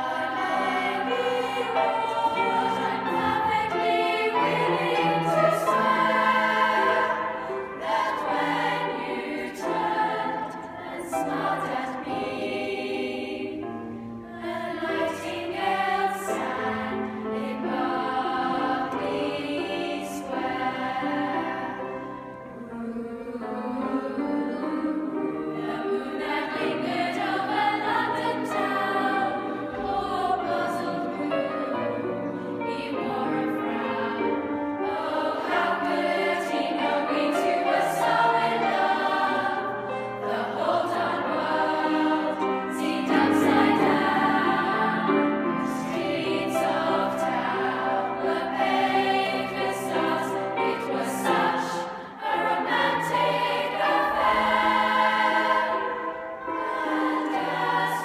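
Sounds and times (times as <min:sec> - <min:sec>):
girls' choir singing in harmony: 0:00.0 - 0:58.0.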